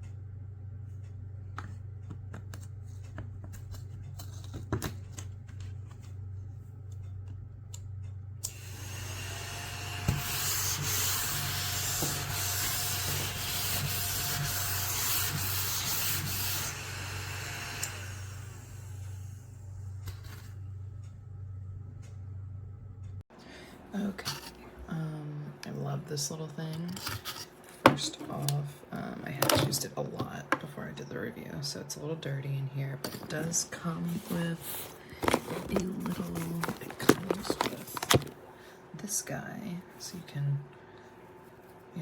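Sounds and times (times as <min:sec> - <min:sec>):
faint vacuum motor whine: 0:00.8 - 0:42.0.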